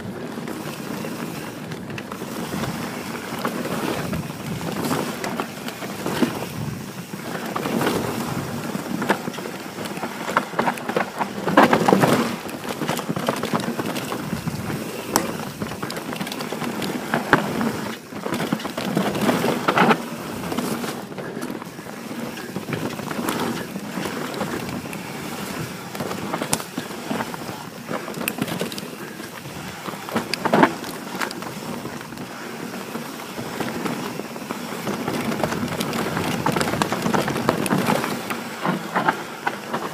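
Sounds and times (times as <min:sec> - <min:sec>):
bike rattling and knocking: 0:00.0 - 0:39.9
tyre noise on dirt: 0:00.0 - 0:39.9.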